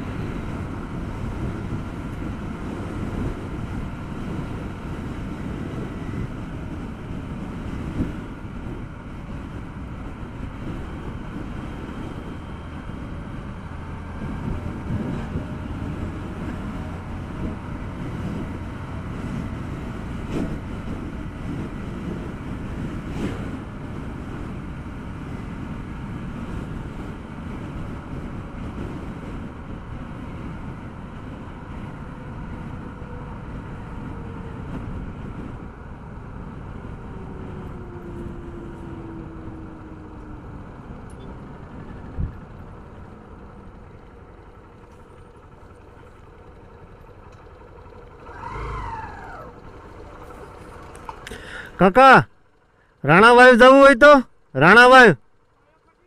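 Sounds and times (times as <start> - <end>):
wind buffeting microphone: 0.0 - 51.7
tyre noise on concrete road: 0.0 - 53.0
motorcycle engine: 0.0 - 53.2, 55.2 - 56.0.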